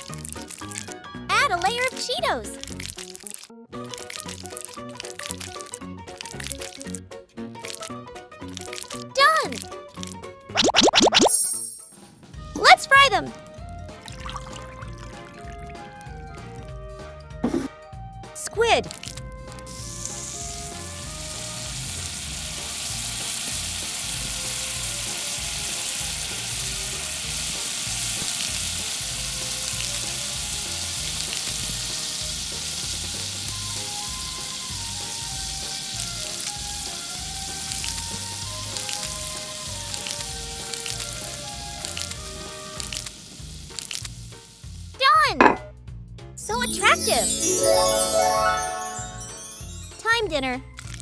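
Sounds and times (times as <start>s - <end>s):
food sizzling in hot oil: 0.0s - 7.0s, 7.6s - 11.9s, 12.6s - 16.7s, 18.4s - 45.6s, 46.4s - 51.0s.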